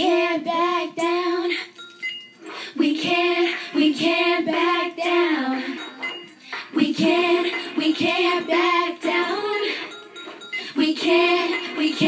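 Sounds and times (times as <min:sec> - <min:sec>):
girl singing: 0:00.0 - 0:01.8, 0:02.7 - 0:06.0, 0:06.6 - 0:09.9, 0:10.7 - 0:12.0.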